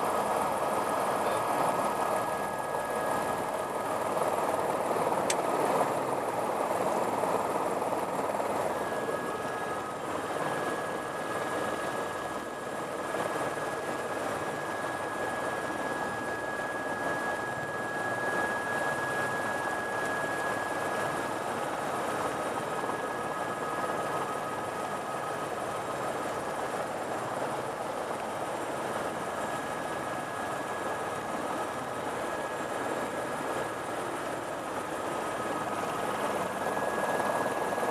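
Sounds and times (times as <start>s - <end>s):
helicopter engine and rotor: 0.0s - 37.9s
high turbine whine: 0.0s - 37.9s.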